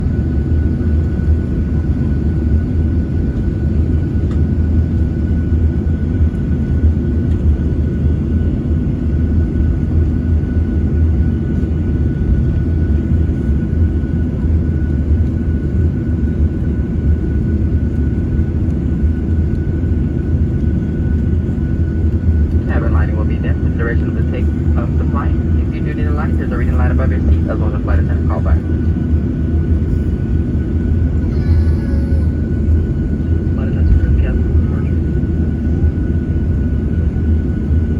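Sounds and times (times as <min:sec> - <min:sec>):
aircraft cabin rumble: 0:00.0 - 0:37.9.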